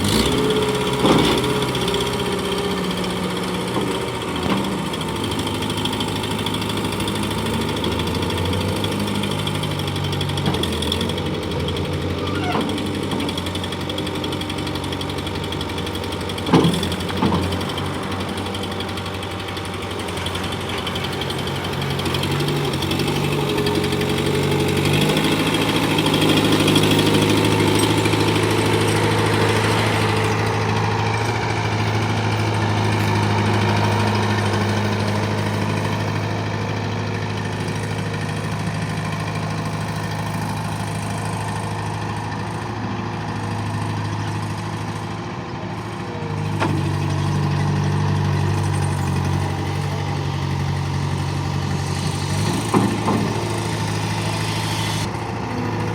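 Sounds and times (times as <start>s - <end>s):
skid steer engine running: 0.0s - 55.9s.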